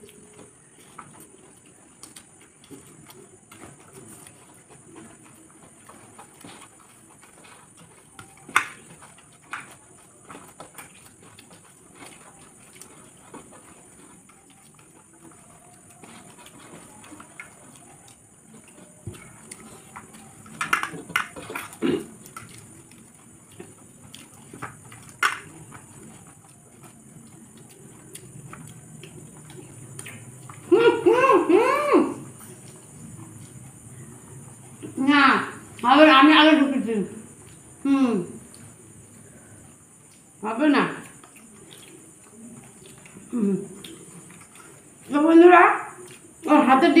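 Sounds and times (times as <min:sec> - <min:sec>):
chewing and wet mouth sounds: 0:00.0 - 0:30.9, 0:32.2 - 0:36.1, 0:37.1 - 0:46.7.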